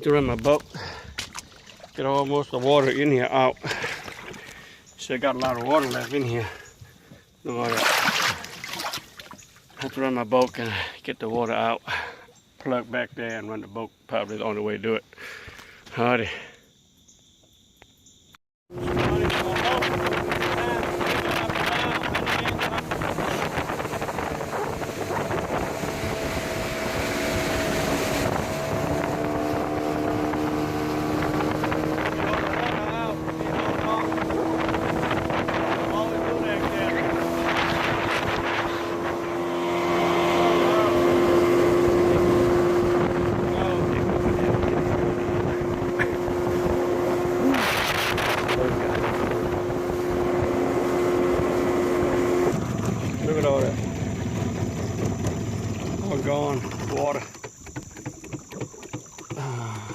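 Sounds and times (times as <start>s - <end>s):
boat motor running: 0.0s - 10.8s, 18.7s - 59.9s
water noise: 0.0s - 14.7s, 18.7s - 59.9s
wind: 0.0s - 59.9s.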